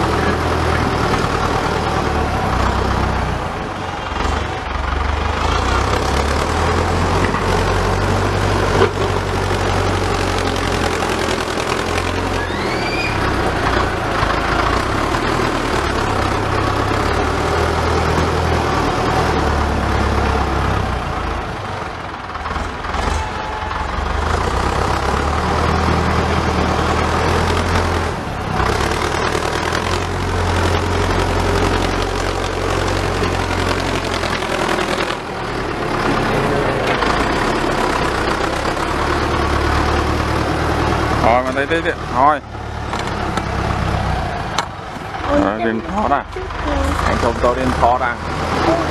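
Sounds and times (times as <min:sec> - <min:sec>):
tractor engine drone: 0:00.0 - 0:48.9.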